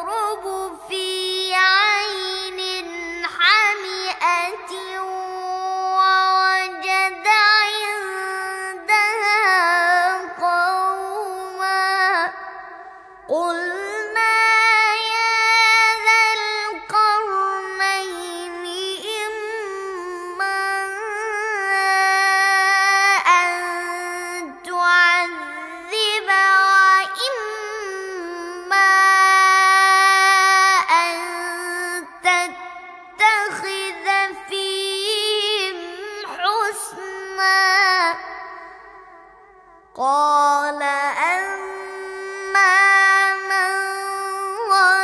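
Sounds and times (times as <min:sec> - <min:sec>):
boy reciting melodically: 0:00.0 - 0:45.0.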